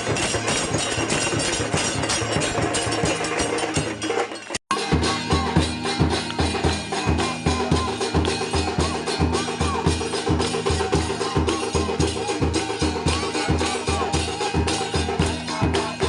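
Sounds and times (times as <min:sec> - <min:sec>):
fast drumming: 0:00.0 - 0:16.0
other percussion: 0:00.0 - 0:16.0.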